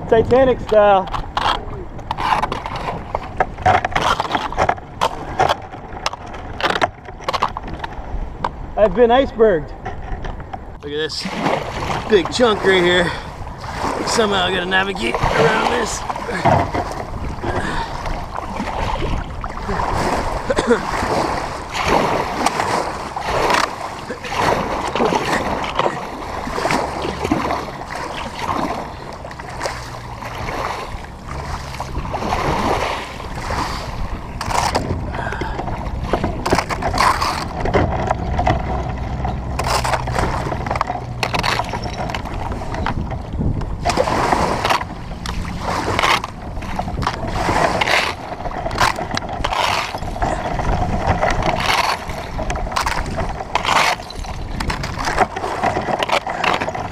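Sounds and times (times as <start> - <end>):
water sloshing: 0.0 - 9.0, 9.7 - 56.9
wind rumble on microphone: 0.0 - 56.9
paddle splashes: 0.4 - 8.4, 10.8 - 56.9.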